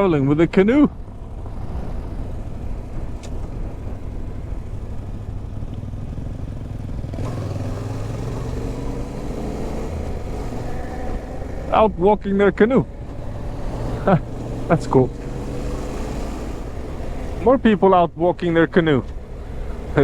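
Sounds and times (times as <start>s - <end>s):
wind and road noise: 0.0s - 20.0s
motorcycle engine accelerating: 0.9s - 20.0s.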